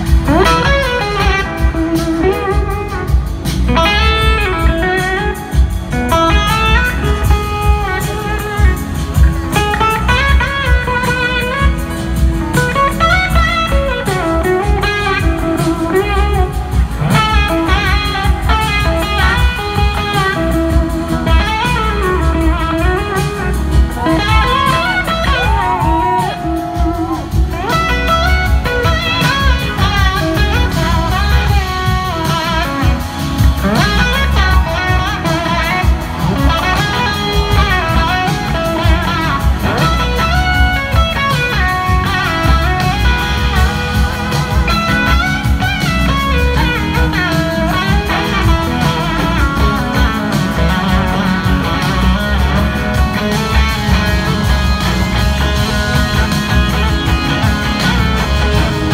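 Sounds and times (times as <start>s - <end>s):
blues-rock band playing: 0.0s - 58.9s
electric slide guitar: 0.0s - 58.9s.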